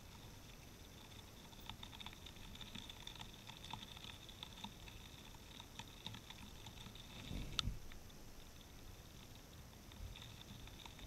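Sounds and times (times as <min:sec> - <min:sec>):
birds pecking at seeds: 0:00.0 - 0:11.0.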